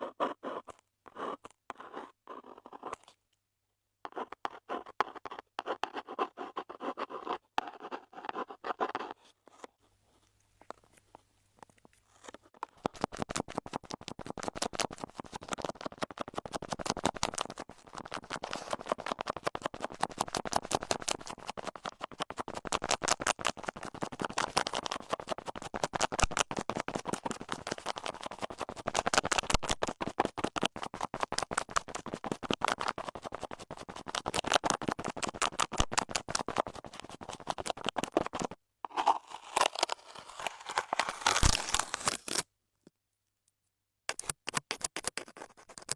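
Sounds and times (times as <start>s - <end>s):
crackly scratching: 0.0s - 3.2s, 4.0s - 42.4s, 44.1s - 45.9s.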